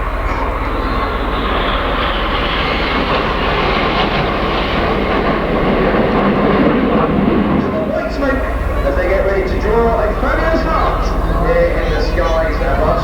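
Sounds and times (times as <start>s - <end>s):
jets passing overhead: 0.0s - 13.0s.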